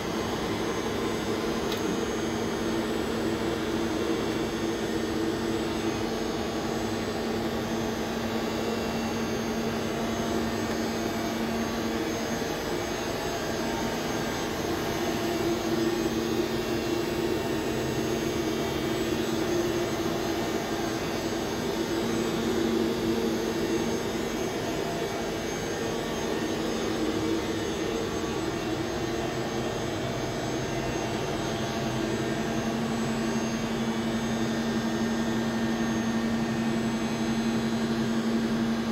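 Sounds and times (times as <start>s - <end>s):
lathe machine hum: 0.0s - 38.8s.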